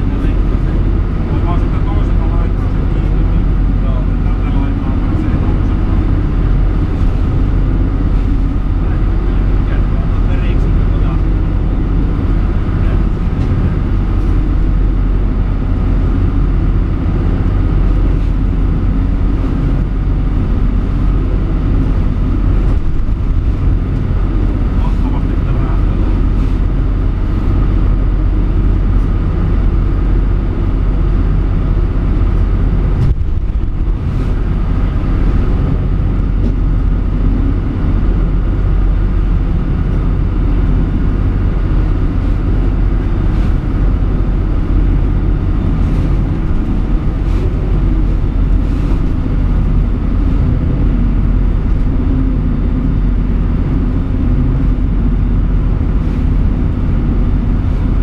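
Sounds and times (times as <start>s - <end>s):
boat engine rumbling: 0.0s - 58.0s
waves slapping the hull: 0.0s - 58.0s.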